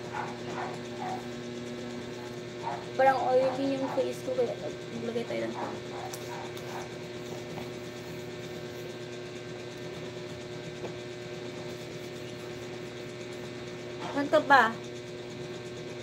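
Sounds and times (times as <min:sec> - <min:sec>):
household appliance hum: 0:00.0 - 0:16.0.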